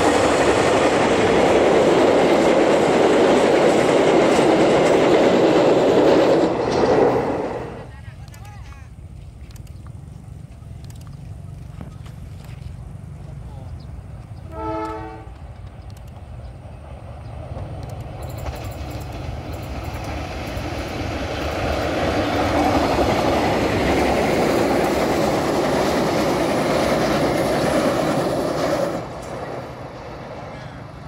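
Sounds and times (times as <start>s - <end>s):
passenger train passing: 0.0s - 31.0s.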